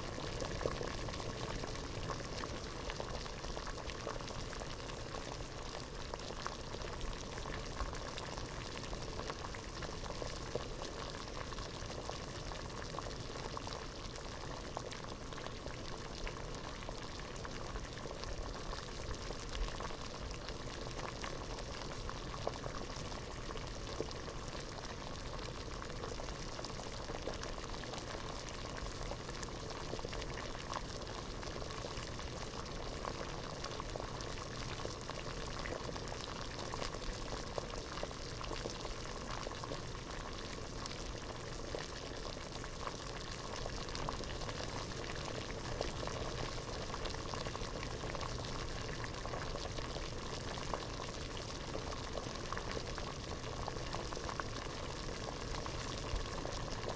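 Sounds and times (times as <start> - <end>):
water boiling in a pot: 0.0 - 56.9.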